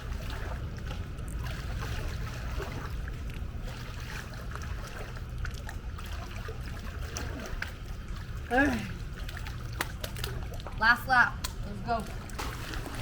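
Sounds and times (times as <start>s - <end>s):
pool water splashing: 0.0s - 13.0s
steady low rumble: 0.0s - 13.0s.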